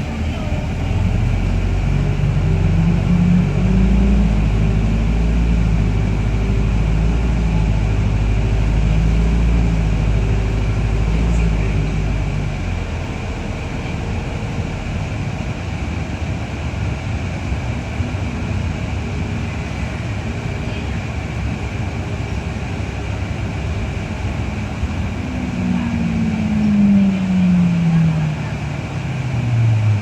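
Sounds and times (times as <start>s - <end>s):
low tone sliding down: 0.0s - 15.8s, 18.0s - 30.0s
bus cabin low rumble: 0.0s - 30.0s
constant high whine: 0.0s - 30.0s.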